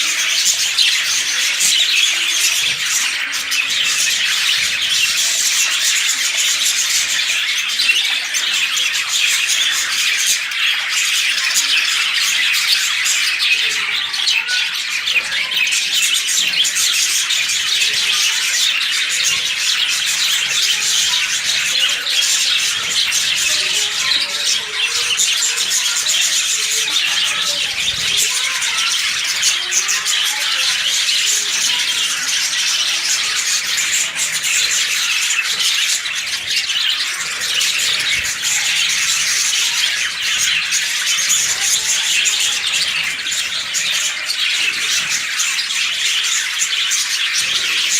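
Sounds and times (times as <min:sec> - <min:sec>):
lovebirds chattering and squawking: 0:00.0 - 0:47.9.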